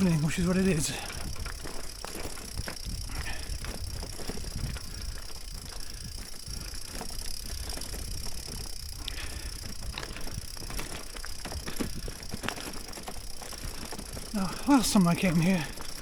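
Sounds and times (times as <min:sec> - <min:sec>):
bike clicking and rattling: 0:00.0 - 0:16.0
footsteps crunching on stones: 0:00.0 - 0:16.0.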